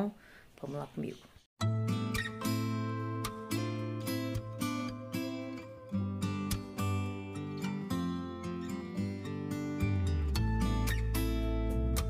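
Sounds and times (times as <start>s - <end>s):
acoustic guitar music: 1.6s - 12.0s.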